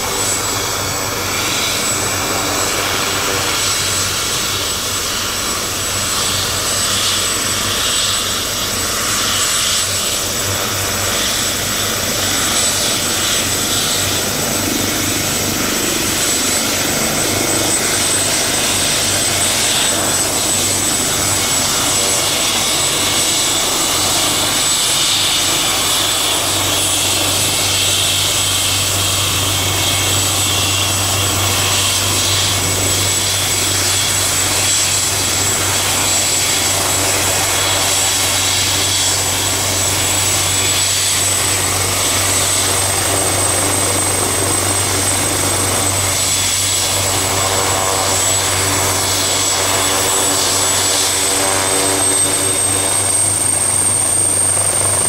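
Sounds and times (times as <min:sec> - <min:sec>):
helicopter engine whine: 0:00.0 - 0:55.0
helicopter rotor noise: 0:00.0 - 0:55.0.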